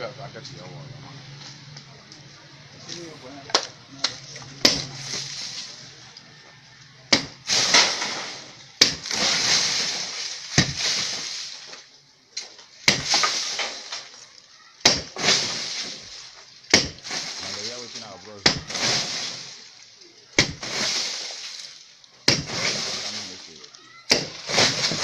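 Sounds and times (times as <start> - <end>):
rubble crumbling and falling: 2.9 - 25.0.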